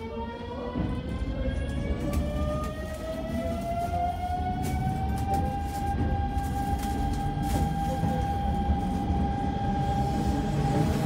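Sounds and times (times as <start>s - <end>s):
train running rumble: 0.5s - 11.0s.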